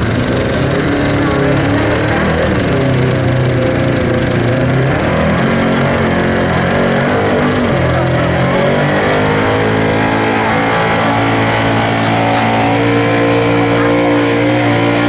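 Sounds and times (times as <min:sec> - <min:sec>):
truck engine running at high revs: 0:00.0 - 0:15.0.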